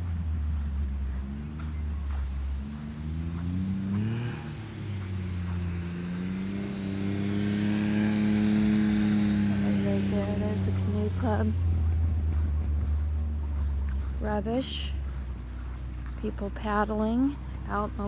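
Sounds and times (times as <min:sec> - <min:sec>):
utility vehicle engine driving: 0:00.0 - 0:18.0.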